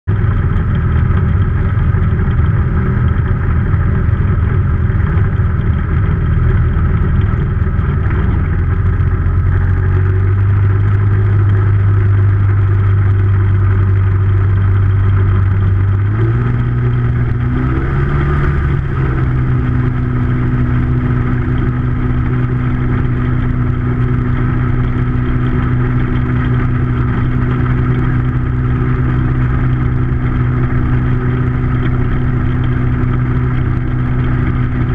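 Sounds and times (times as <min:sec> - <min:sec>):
aircraft engine and propeller: 0:00.0 - 0:34.9.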